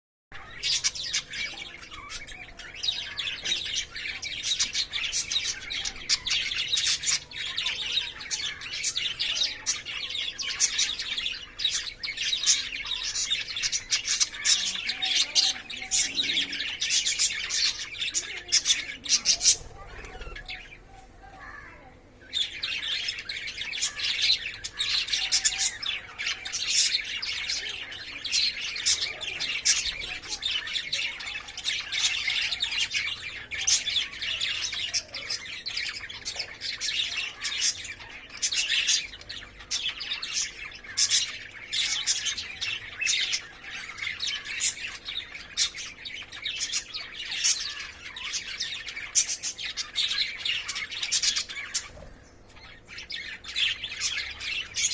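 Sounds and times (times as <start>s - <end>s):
lovebirds chirping and squawking: 0.3s - 54.9s.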